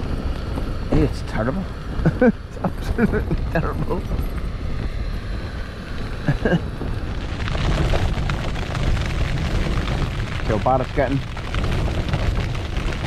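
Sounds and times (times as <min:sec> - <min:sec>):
wind buffeting tent fabric: 0:00.0 - 0:13.0
wind rumble on microphone: 0:00.0 - 0:13.0.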